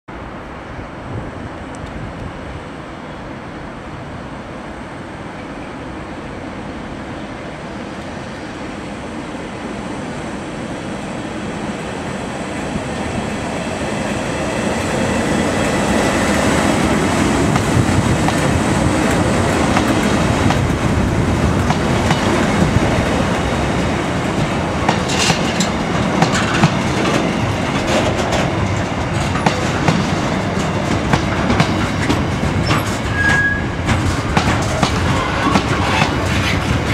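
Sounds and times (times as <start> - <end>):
electric locomotive passing: 0.1 - 36.9.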